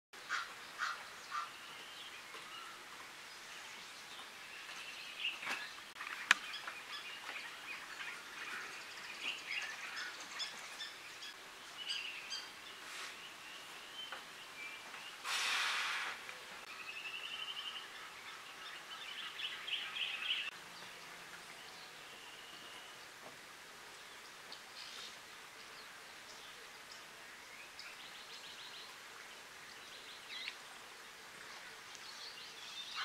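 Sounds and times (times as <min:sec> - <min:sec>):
wild bird calls and chirps: 0:00.2 - 0:23.2, 0:23.9 - 0:33.0
faint steady hiss: 0:00.2 - 0:33.0.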